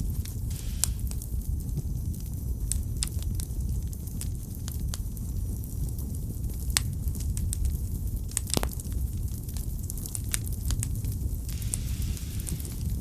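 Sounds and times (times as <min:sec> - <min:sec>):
fire crackling and popping: 0:00.0 - 0:13.0
wood fire rumbling: 0:00.0 - 0:13.0.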